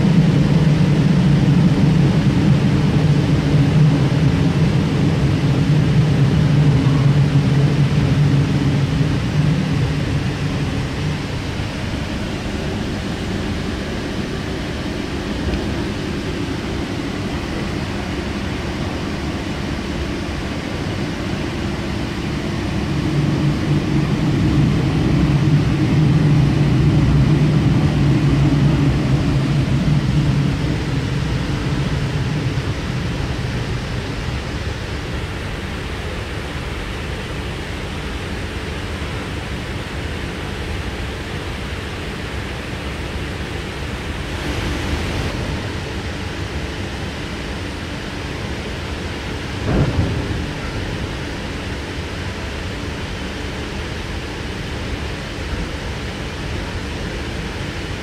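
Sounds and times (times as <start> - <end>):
low hum: 0.0 - 58.0
train rolling noise: 0.0 - 58.0.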